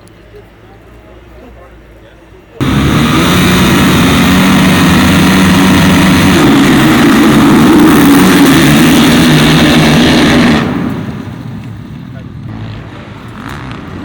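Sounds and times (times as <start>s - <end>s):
dirt bike engines revving: 0.4s - 14.0s.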